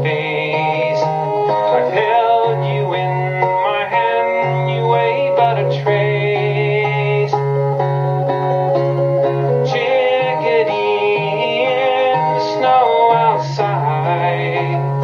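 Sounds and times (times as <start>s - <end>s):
man singing folk song: 0.0s - 7.5s, 9.6s - 15.0s
acoustic guitar strummed: 0.0s - 15.0s.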